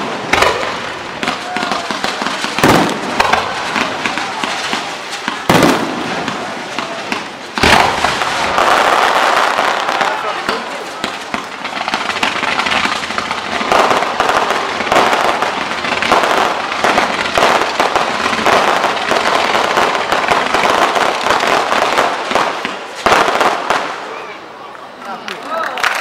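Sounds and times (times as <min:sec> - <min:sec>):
fireworks crackling and popping: 0:00.0 - 0:26.0.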